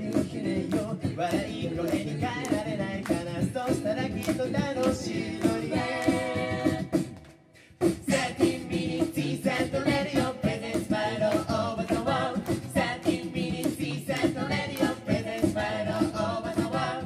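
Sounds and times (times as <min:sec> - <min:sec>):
a cappella group singing: 0:00.0 - 0:07.2, 0:07.8 - 0:17.0
beatboxed percussion: 0:00.0 - 0:17.0.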